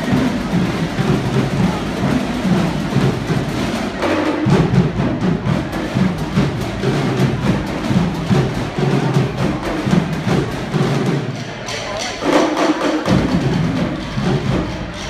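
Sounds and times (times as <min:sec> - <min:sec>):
drum line playing: 0:00.0 - 0:15.0.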